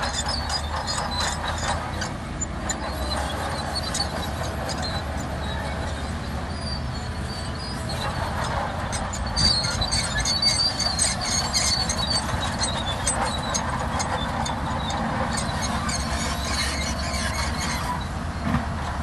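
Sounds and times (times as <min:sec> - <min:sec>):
bulldozer engine rumble: 0:00.0 - 0:19.0
bulldozer tracks squealing: 0:00.0 - 0:19.0.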